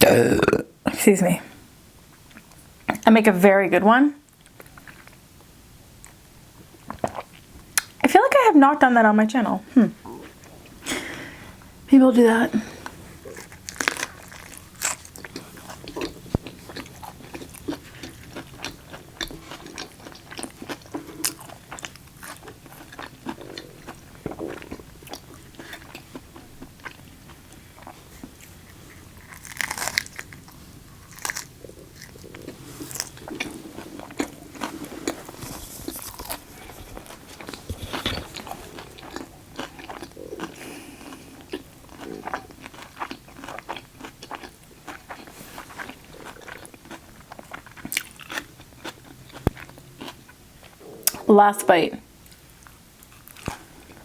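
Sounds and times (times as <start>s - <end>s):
person chewing and crunching food: 4.3s - 5.2s, 6.0s - 8.0s, 12.6s - 51.3s, 52.2s - 54.0s.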